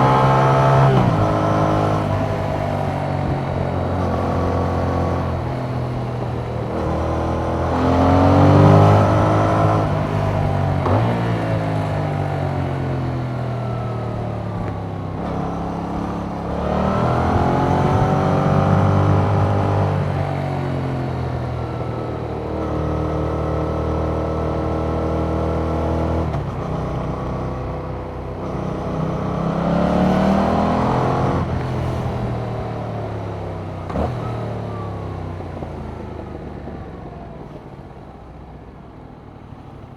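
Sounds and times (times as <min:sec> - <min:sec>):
motorcycle engine revving: 0:00.0 - 0:37.6.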